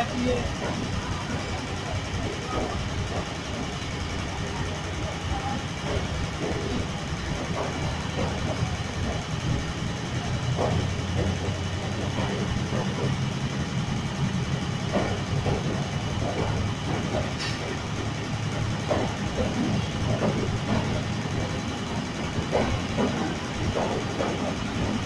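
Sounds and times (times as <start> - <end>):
train coaches rolling past: 0.0 - 25.0.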